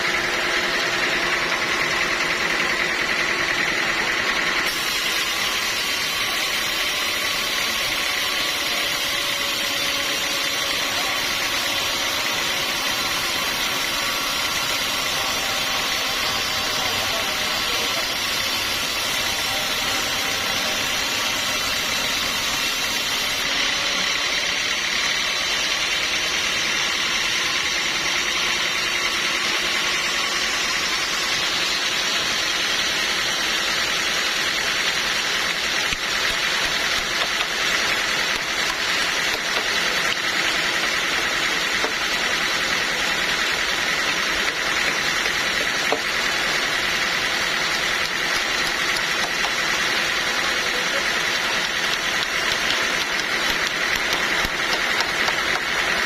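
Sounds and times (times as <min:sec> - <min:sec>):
high machine whine: 0:00.0 - 0:56.0
sawmill machinery droning: 0:00.0 - 0:56.0.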